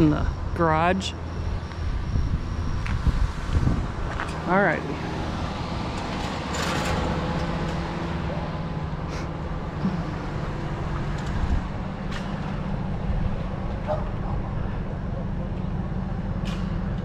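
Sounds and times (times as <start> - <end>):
road noise: 0.0 - 17.0
vehicle engine running: 0.0 - 17.0.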